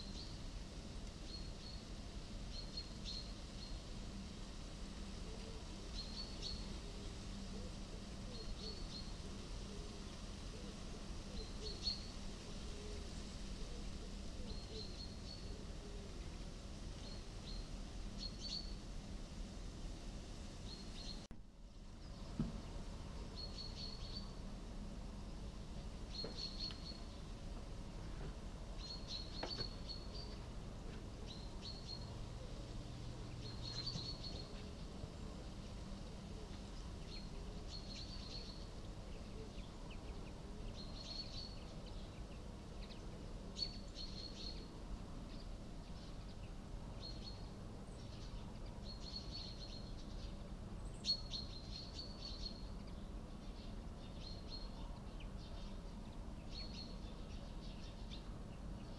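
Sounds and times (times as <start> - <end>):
faint background noise: 0.0 - 58.9.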